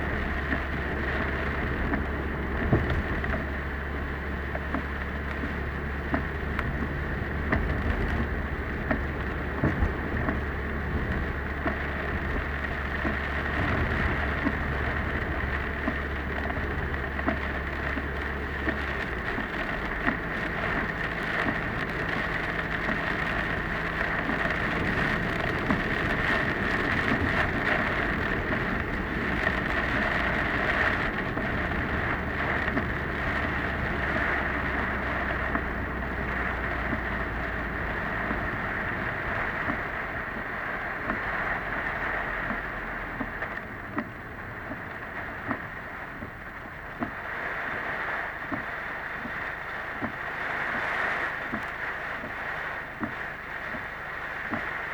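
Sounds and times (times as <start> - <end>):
rain hitting a car: 0.0 - 54.9
road and engine noise: 0.0 - 54.9.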